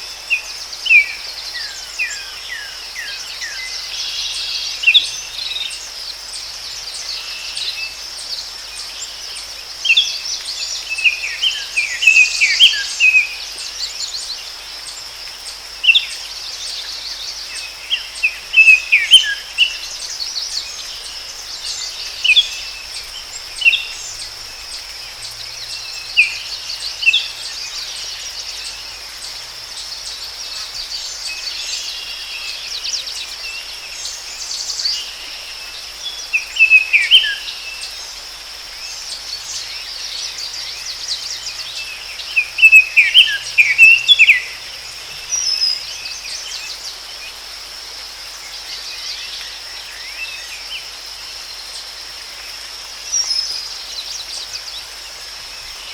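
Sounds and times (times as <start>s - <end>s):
high insect drone: 0.0s - 55.9s.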